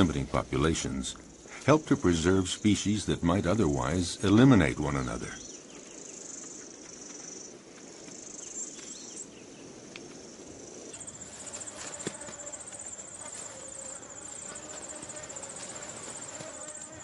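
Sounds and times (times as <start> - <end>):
insect high-pitched buzz: 0.0 - 17.0
insect pulsed high trill: 0.6 - 17.0.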